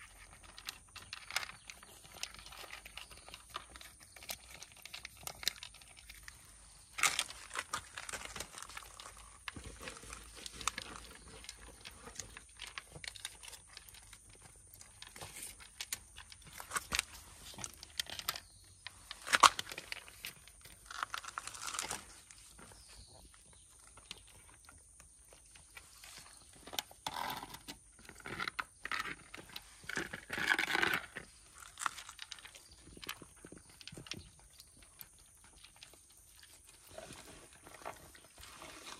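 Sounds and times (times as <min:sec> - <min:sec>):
cats chewing food: 0:00.0 - 0:38.9.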